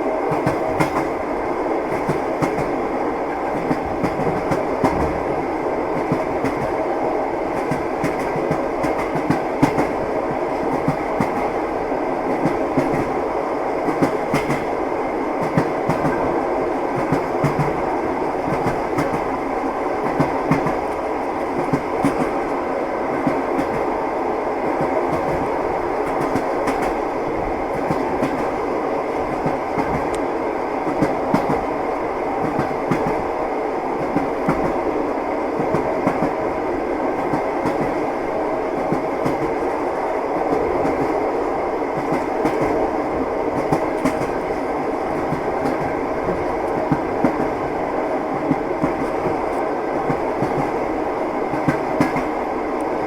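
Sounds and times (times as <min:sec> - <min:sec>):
train wheels clattering on rails: 0:00.0 - 0:14.8, 0:15.4 - 0:24.0, 0:24.6 - 0:31.8, 0:32.4 - 0:33.4, 0:34.0 - 0:34.8, 0:35.5 - 0:41.4, 0:42.0 - 0:52.9.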